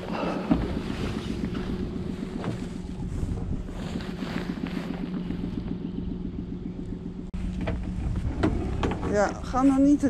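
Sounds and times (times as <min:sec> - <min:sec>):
outboard motor humming: 0:00.0 - 0:10.0
wind buffeting microphone: 0:00.0 - 0:10.0.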